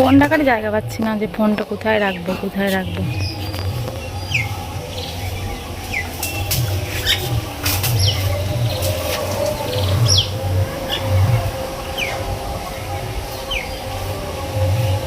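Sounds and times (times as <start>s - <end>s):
birds chirping: 0.0s - 15.0s
wind rumbling on microphone: 0.0s - 15.0s.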